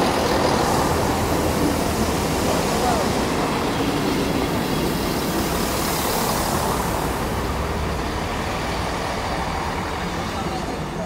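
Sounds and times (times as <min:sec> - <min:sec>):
diesel engine drone: 0:00.0 - 0:11.0
wheels on rail: 0:00.0 - 0:11.0.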